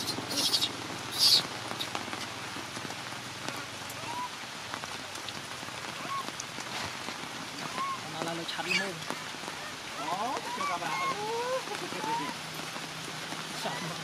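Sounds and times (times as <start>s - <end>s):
rain falling on leaves: 0.0s - 14.0s
water drips: 0.1s - 14.0s.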